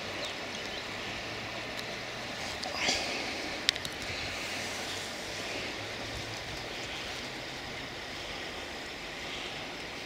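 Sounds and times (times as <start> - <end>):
distant engine drone: 0.0 - 10.0
outdoor rush: 0.0 - 10.0.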